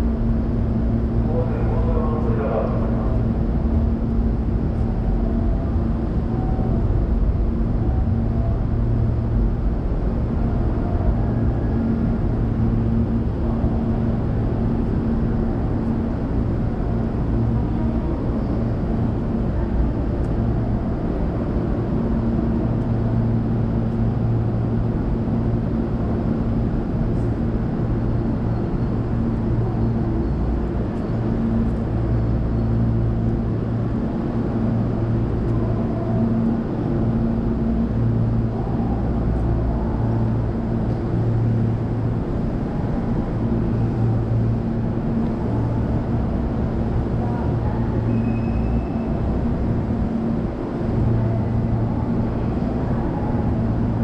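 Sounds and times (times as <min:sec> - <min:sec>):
electric train humming: 0:00.0 - 0:54.0.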